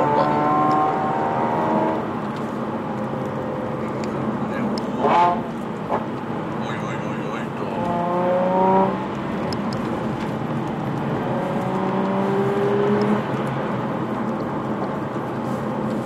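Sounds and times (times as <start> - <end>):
car engine revving: 0.0 - 16.0
tyre and road noise: 0.0 - 16.0.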